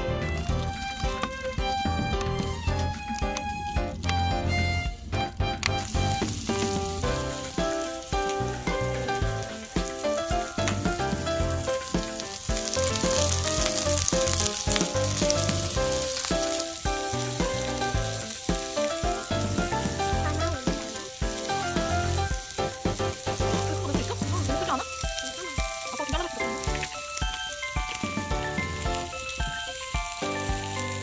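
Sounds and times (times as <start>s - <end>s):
background music: 0.0s - 31.0s
food sizzling in frying: 0.0s - 31.0s.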